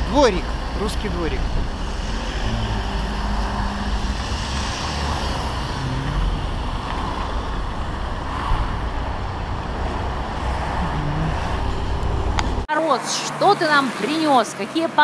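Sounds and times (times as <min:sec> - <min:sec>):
street traffic driving past: 0:00.0 - 0:15.0.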